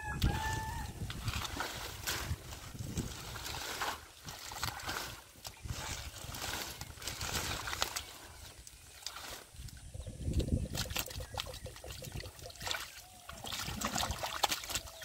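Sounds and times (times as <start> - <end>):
hands splashing in muddy water: 0.2 - 15.0.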